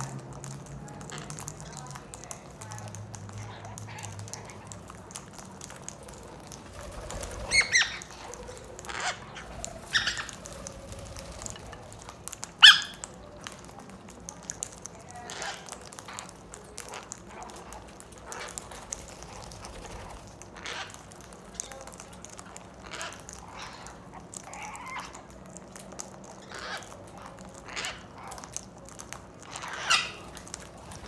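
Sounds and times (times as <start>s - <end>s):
parrot calls and chatter: 0.0s - 31.0s.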